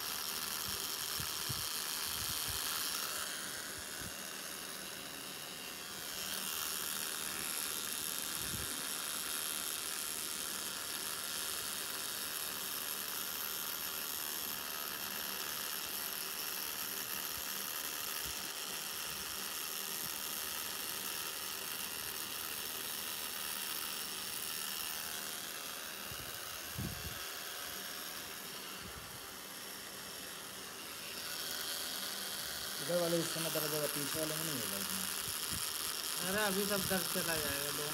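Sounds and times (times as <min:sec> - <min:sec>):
tattoo machine high-pitched whir: 0:00.0 - 0:37.9.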